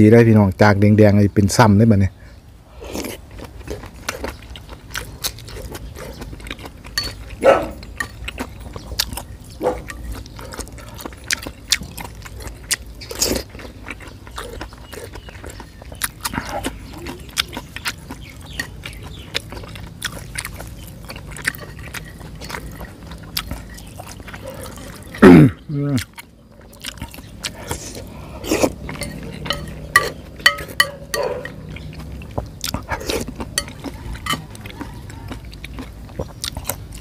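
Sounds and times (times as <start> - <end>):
man chewing and slurping: 2.7 - 37.0.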